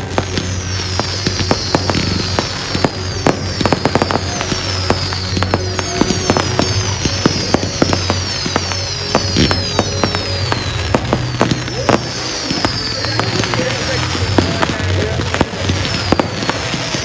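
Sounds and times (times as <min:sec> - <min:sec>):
falling whistles: 0:00.0 - 0:17.0
fireworks crackling and popping: 0:00.0 - 0:17.0.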